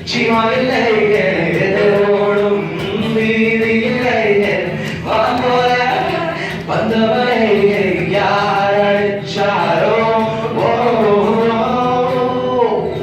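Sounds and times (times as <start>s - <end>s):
guitar accompaniment: 0.0s - 13.0s.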